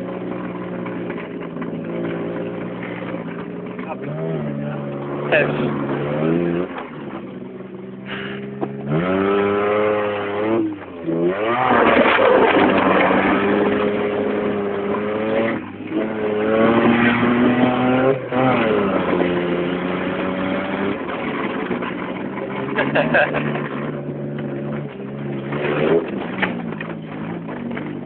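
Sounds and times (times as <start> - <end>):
car engine running under load: 0.0 - 28.0.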